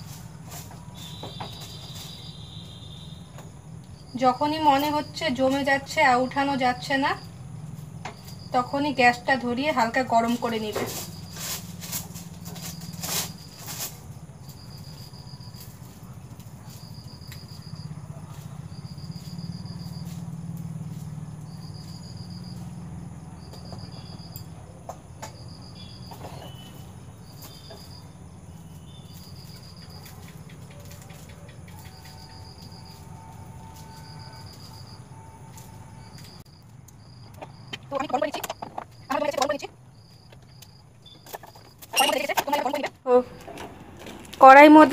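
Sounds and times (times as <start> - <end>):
cricket chirping: 0.0 - 44.9.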